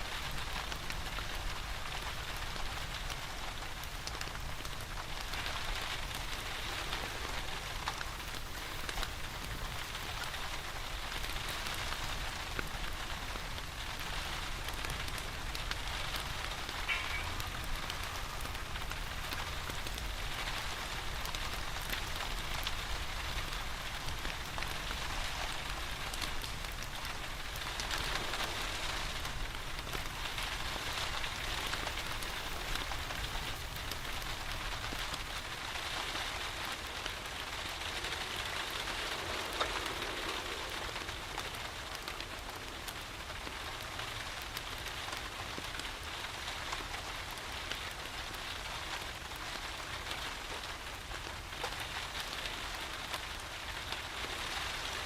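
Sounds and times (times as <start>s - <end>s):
steady rain falling: 0.0s - 55.0s
wood fire crackling: 0.0s - 55.0s.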